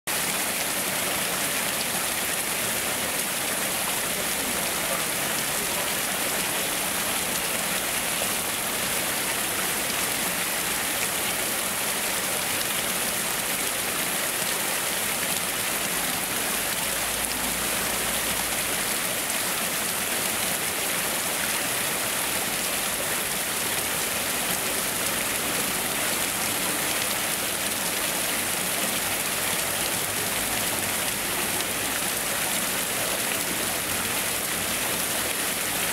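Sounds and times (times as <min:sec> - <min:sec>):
water splashing over rocks: 0:00.1 - 0:35.9.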